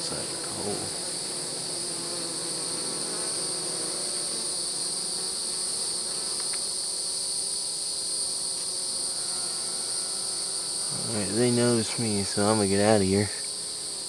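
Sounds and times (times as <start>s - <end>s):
bees buzzing: 0.0s - 14.0s
high insect trill: 0.0s - 14.0s.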